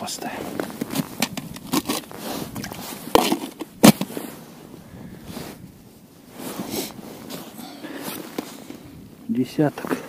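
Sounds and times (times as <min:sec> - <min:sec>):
soft rustling: 0:00.0 - 0:10.0.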